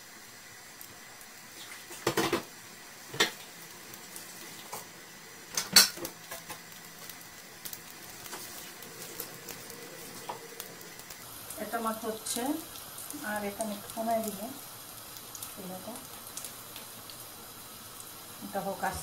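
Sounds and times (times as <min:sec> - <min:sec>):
meat sizzling in a pan: 0:00.0 - 0:19.0.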